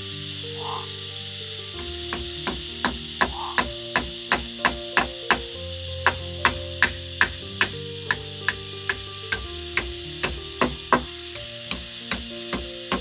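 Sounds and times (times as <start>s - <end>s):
steady hum: 0.0s - 13.0s
hammer driving nail into wood: 1.8s - 13.0s.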